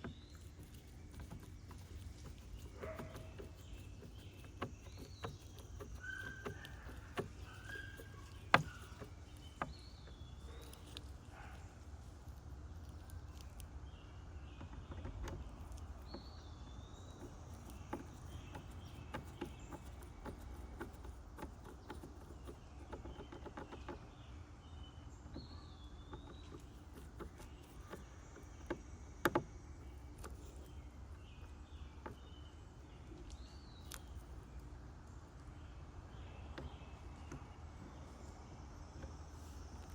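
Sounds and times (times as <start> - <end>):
songbirds calling: 0.0 - 39.9.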